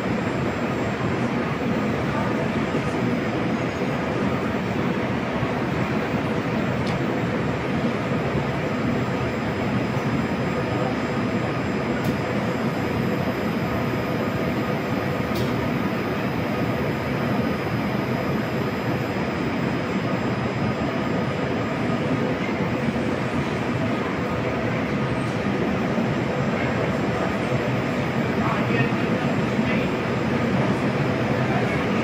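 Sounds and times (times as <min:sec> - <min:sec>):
train hum and hiss: 0:00.0 - 0:32.0.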